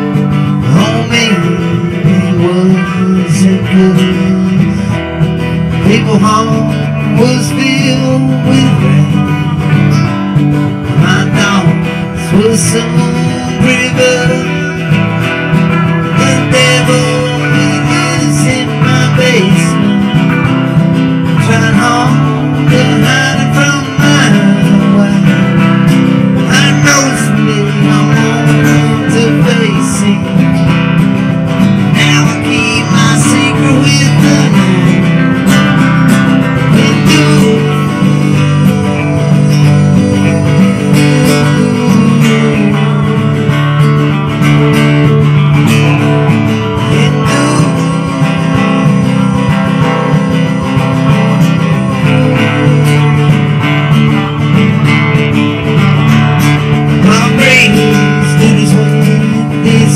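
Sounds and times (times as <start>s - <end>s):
electric guitar lead line: 0.0s - 59.9s
strummed acoustic guitar: 0.0s - 59.9s.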